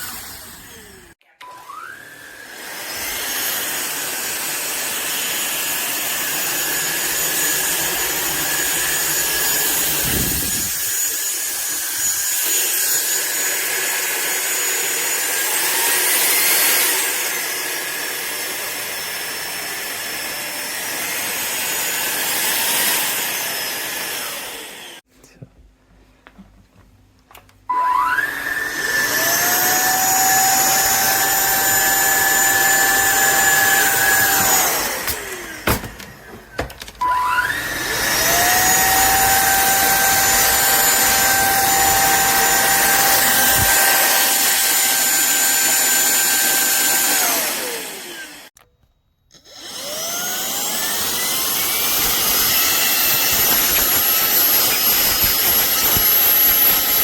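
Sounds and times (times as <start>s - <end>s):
vacuum cleaner motor whining: 0.0s - 25.0s, 27.7s - 48.6s, 49.3s - 57.0s.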